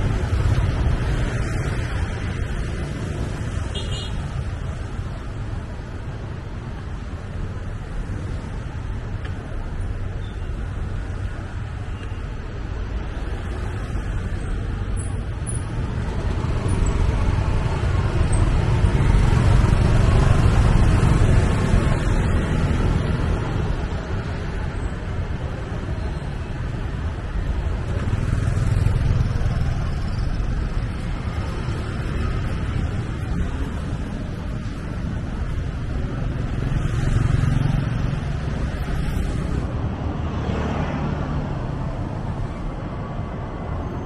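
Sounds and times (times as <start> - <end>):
road traffic rumble: 0.0 - 44.0.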